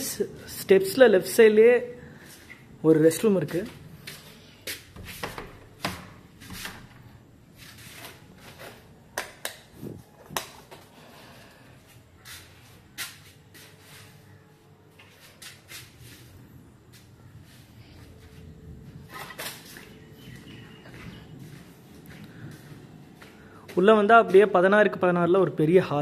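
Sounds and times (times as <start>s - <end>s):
footsteps on tiled steps: 2.2s - 25.0s.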